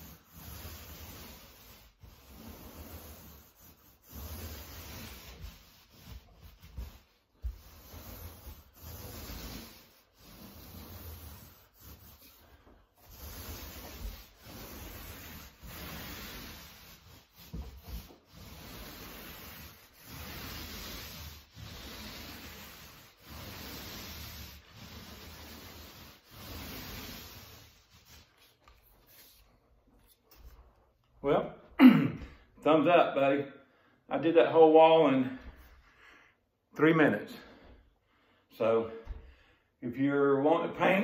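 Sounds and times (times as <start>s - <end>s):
paint roller rubbing on wall: 0.0s - 36.2s, 36.8s - 41.0s.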